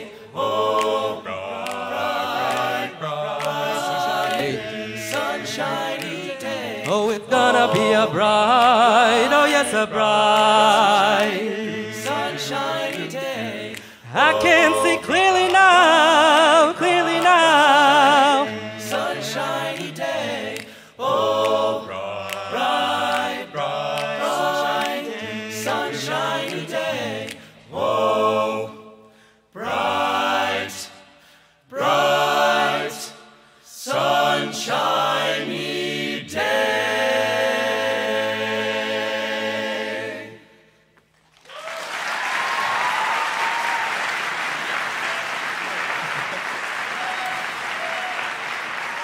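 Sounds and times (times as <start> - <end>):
male a cappella group singing: 0.0 - 40.8.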